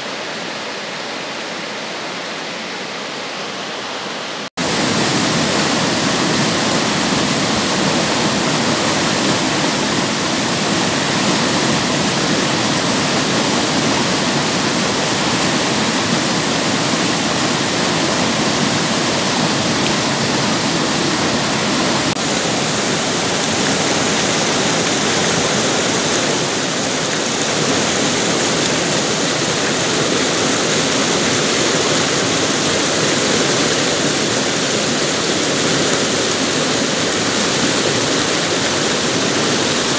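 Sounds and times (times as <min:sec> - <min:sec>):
water rushing over boulders: 0:04.6 - 0:39.9.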